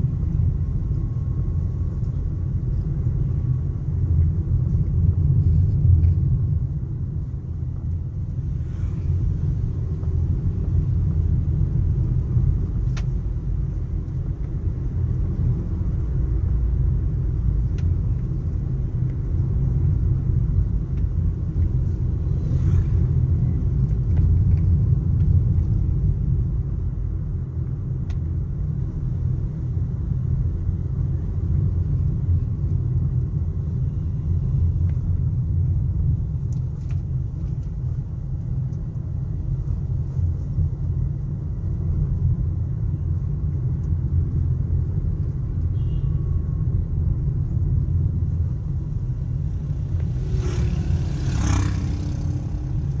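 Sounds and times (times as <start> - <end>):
car interior engine and tyre rumble: 0.0 - 53.0.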